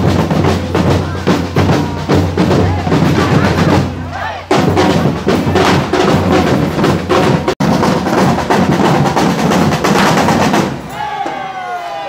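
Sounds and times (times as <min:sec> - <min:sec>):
drums beating fast rhythm: 0:00.0 - 0:11.5.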